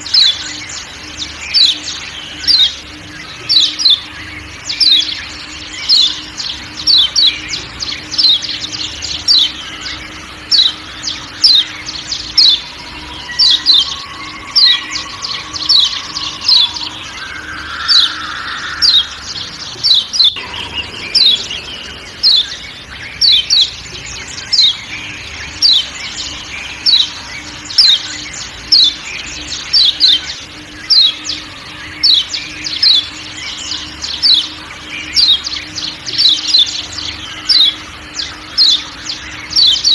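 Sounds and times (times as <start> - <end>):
bird sharp downward calls: 0.0 - 39.9
faint forest background: 0.0 - 39.9.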